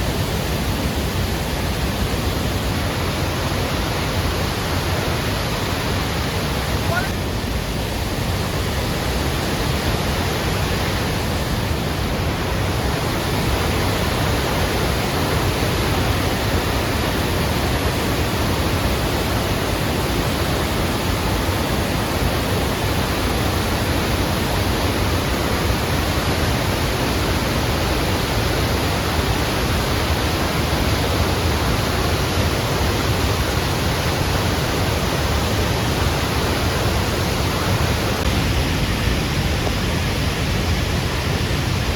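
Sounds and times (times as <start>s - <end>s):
water rushing over a weir: 0.0s - 41.9s.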